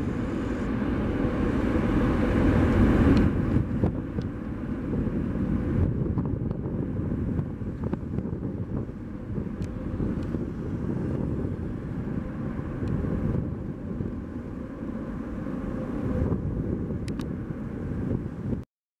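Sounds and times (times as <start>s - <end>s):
jet engines rumbling: 0.0s - 18.6s
wind on microphone: 0.0s - 18.6s.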